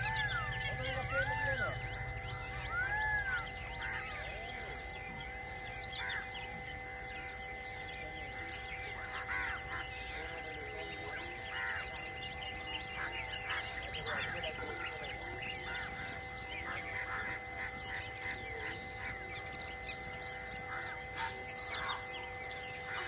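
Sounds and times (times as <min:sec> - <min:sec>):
birds chirping and calling: 0:00.0 - 0:23.0
steady held tones: 0:00.0 - 0:23.0.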